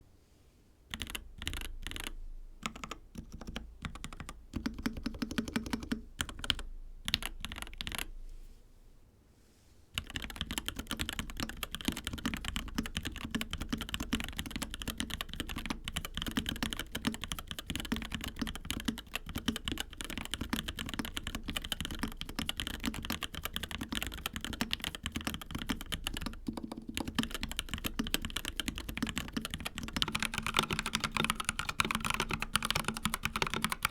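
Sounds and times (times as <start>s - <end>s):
mechanical keyboard typing: 0.9s - 8.1s, 10.0s - 33.9s.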